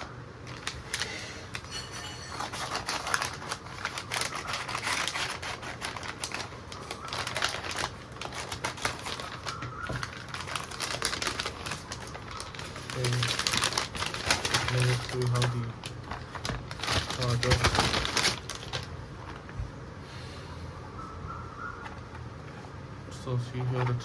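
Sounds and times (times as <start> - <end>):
package packaging tearing and rustling: 0.0 - 19.5.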